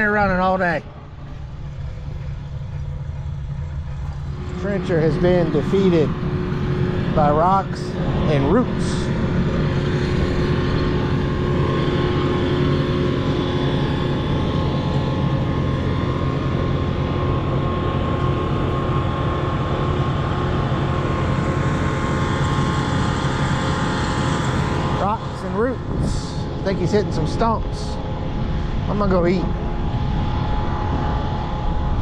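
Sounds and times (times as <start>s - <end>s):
heavy machinery engine droning: 0.0s - 32.0s.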